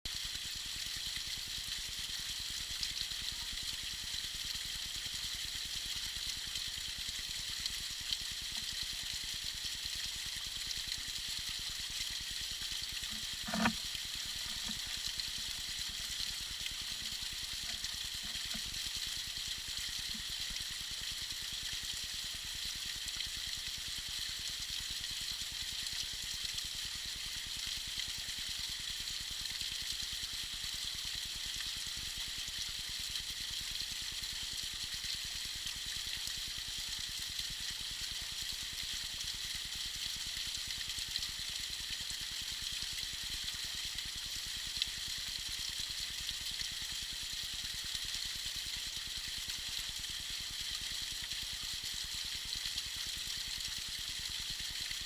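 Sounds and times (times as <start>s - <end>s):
small waterfall trickling: 0.1s - 55.0s.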